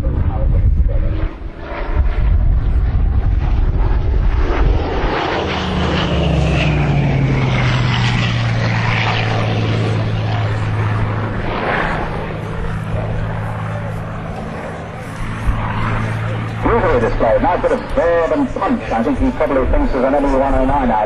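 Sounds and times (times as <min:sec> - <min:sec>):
propeller plane engine flying past: 0:00.0 - 0:21.0.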